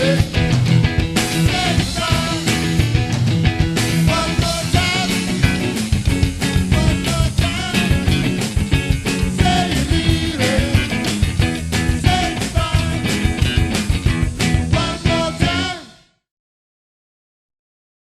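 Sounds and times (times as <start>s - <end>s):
rock band playing with singing: 0.0s - 16.3s.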